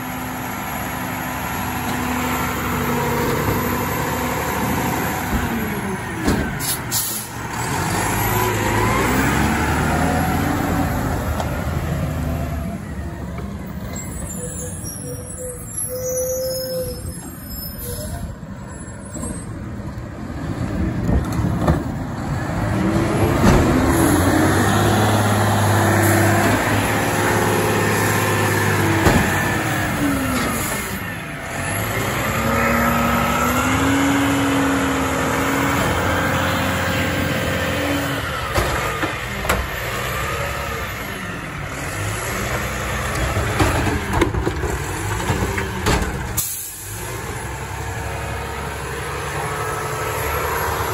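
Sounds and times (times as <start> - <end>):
diesel truck engine revving: 0.0 - 16.2, 20.2 - 50.9.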